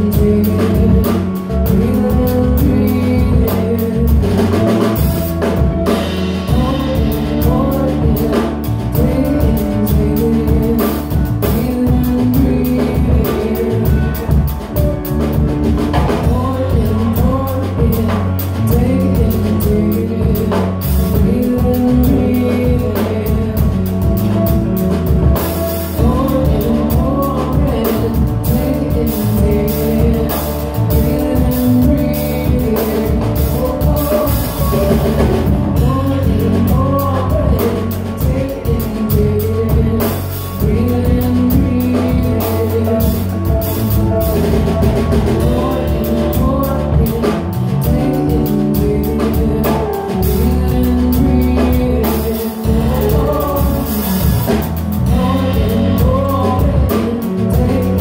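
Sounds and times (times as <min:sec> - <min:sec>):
electric bass: 0:00.0 - 0:58.0
steady percussion beat: 0:00.0 - 0:58.0.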